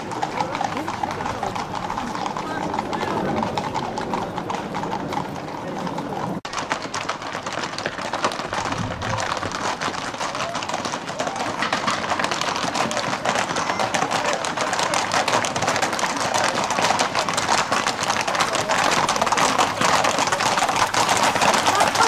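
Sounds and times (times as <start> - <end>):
hooves clattering on asphalt: 0.0 - 22.0.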